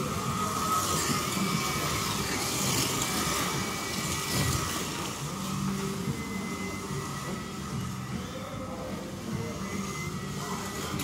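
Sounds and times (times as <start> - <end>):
slot car motors whining: 0.0 - 11.0
slot car wheels whirring in track: 0.0 - 11.0.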